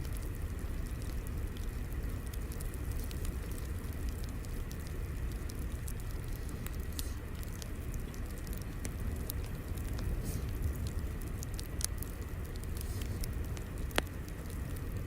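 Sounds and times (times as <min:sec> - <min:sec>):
fire pops and snaps: 0:00.0 - 0:15.0
low rumble of flames: 0:00.0 - 0:15.0.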